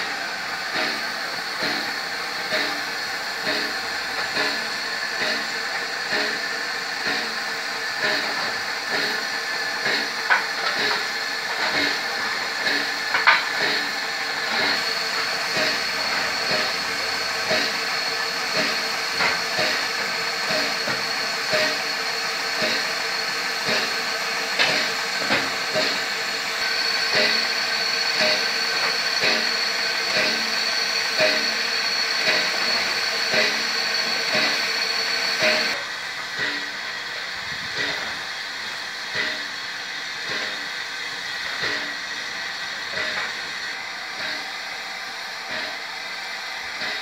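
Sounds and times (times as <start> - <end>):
steam hissing: 0.0 - 47.0.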